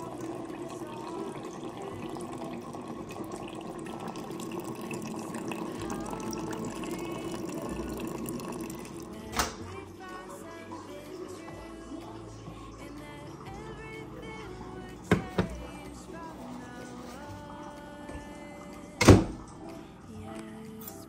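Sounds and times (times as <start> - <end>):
hot water pouring into mug: 0.0 - 20.0.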